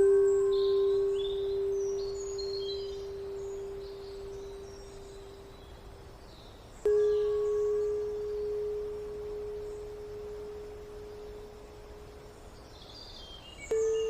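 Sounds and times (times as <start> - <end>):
singing bowl ringing: 0.0 - 6.0, 6.7 - 12.8, 13.6 - 14.0
bird chirps: 0.0 - 14.0.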